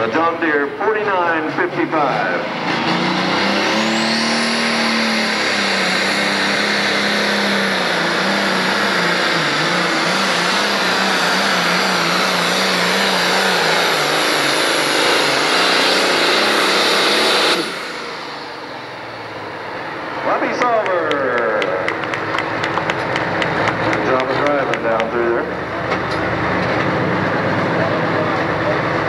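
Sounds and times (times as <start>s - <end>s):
high turbo whine: 0.0s - 29.0s
tractor diesel engine at full throttle: 0.0s - 29.0s.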